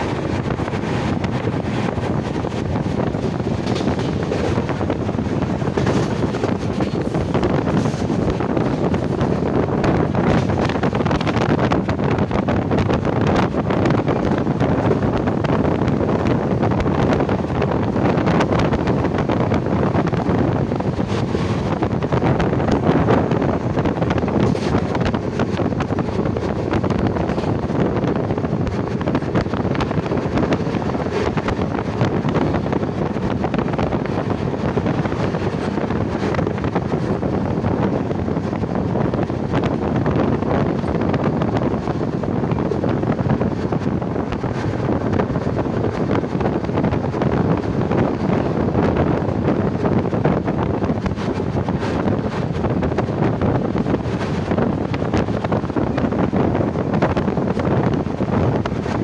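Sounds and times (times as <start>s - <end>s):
moving vehicle rumble: 0.0s - 59.0s
wind rushing over microphone: 0.0s - 59.0s.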